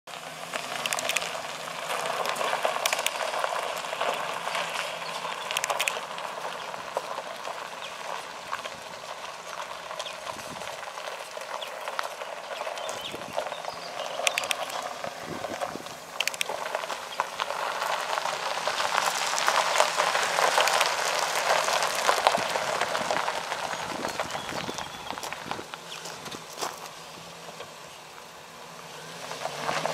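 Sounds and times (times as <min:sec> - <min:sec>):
tyres crunching over gravel: 0:00.1 - 0:29.9.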